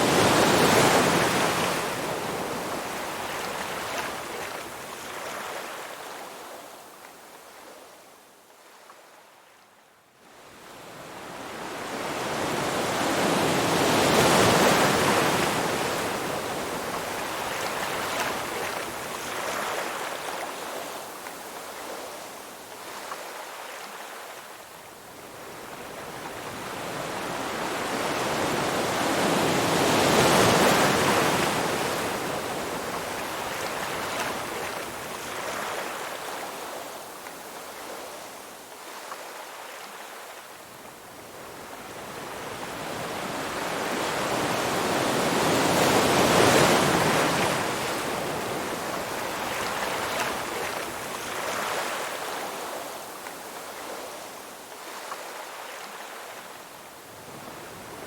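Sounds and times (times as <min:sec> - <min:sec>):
ocean waves crashing on shore: 0:00.0 - 0:06.6, 0:10.4 - 0:58.0.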